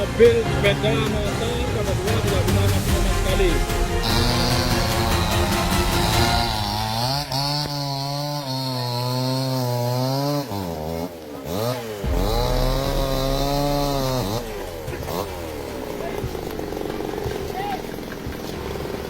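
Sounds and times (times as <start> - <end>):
chainsaw engine running: 0.4 - 19.0.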